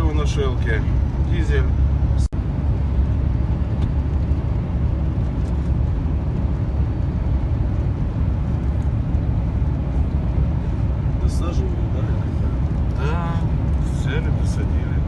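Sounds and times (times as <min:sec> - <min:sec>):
road noise: 0:00.0 - 0:15.0
truck engine rumble: 0:00.0 - 0:15.0.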